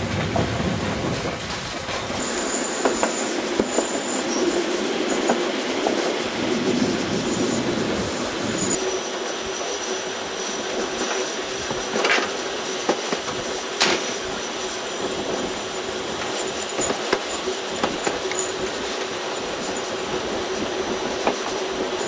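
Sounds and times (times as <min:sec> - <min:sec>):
train rolling on rails: 0:00.0 - 0:22.0
thin high whine: 0:02.0 - 0:22.0.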